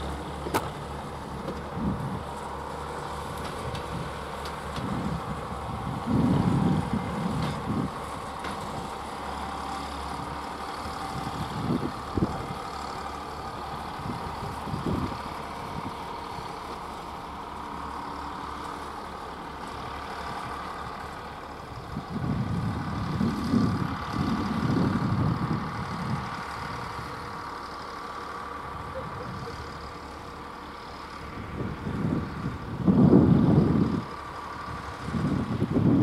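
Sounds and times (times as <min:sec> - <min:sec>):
locomotive mechanical hum: 0:00.0 - 0:36.0.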